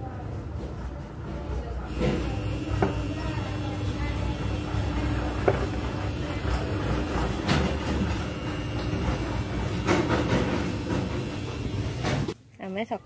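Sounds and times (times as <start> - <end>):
pot boiling hard: 1.9 - 12.4.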